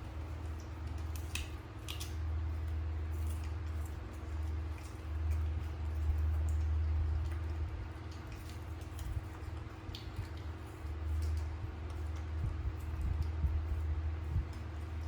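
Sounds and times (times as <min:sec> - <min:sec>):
steady low hum: 0:00.0 - 0:15.0
wet chewing clicks: 0:00.1 - 0:15.0.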